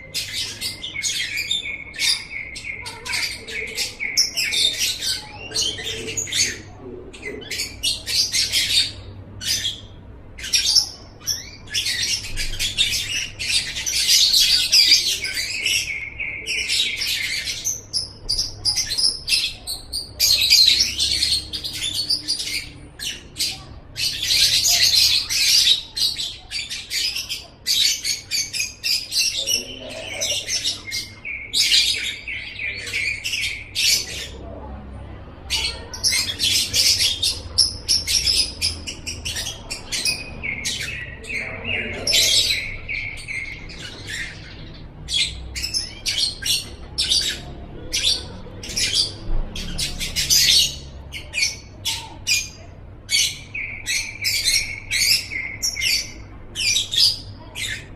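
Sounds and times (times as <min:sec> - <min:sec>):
lovebird chattering and trilling: 0:00.0 - 0:34.4, 0:35.5 - 0:57.9.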